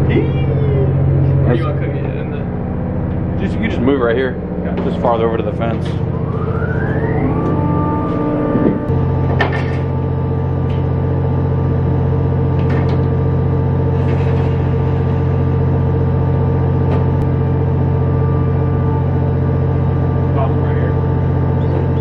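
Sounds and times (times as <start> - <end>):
boat machinery droning hum: 0.0 - 22.0.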